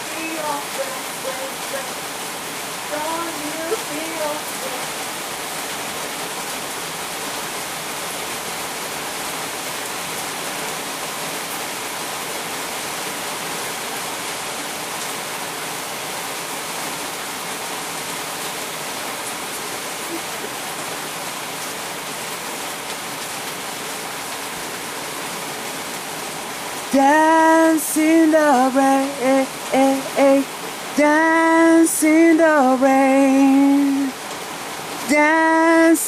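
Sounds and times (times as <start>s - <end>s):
falling water rushing: 0.0s - 36.0s.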